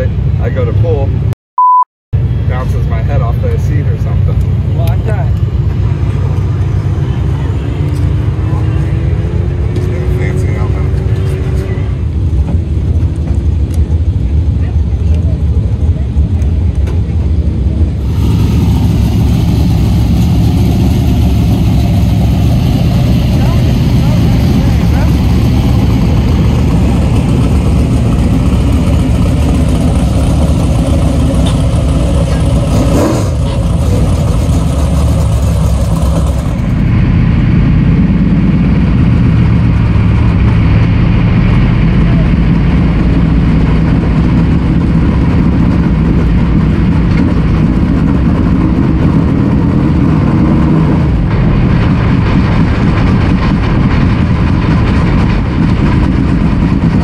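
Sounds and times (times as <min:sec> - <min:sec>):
race car engine running loud: 0:02.2 - 0:57.0.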